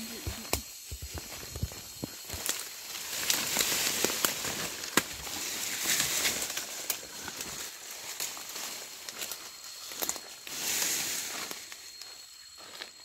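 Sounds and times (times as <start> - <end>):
bamboo leaves crackling underfoot: 0.0 - 13.0.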